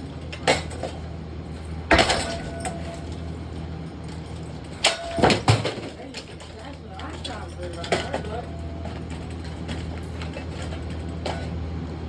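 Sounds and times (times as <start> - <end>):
metallic clanks on ceiling fan: 0.0 - 11.6
steady low hum: 0.0 - 12.0.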